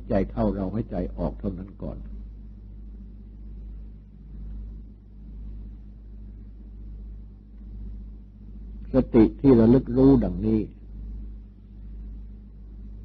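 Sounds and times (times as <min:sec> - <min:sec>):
faint pulsing low rumble: 0:00.0 - 0:13.0
low electrical hum: 0:00.0 - 0:13.0.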